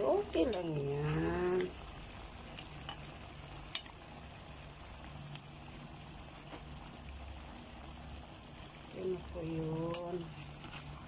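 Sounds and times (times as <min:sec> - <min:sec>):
sauce simmering in a pan: 0:00.0 - 0:11.0.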